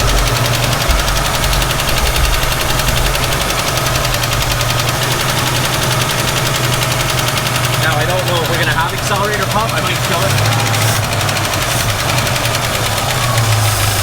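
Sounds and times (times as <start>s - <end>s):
car engine idling: 0.0s - 14.0s
rapid valve tick: 0.0s - 14.0s.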